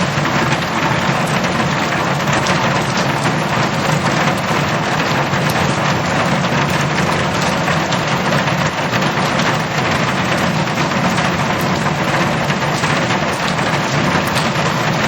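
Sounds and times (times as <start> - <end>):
heavy rain on metal roof: 0.0 - 15.0.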